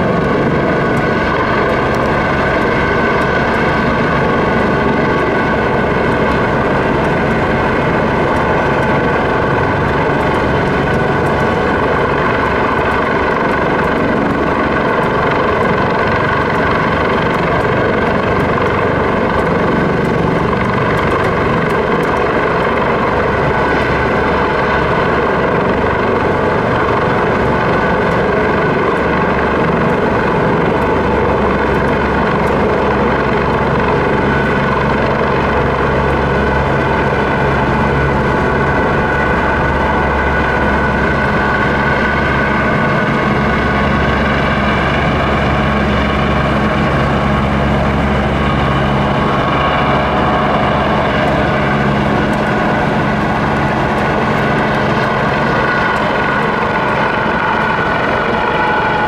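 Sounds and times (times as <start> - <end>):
helicopter rotor and turbine noise: 0.0 - 59.0
steady whining tones: 0.0 - 59.0.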